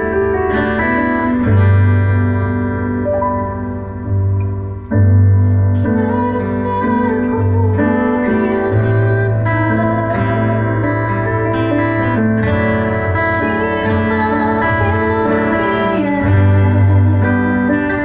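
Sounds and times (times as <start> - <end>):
band playing guitar-led music: 0.0 - 18.0.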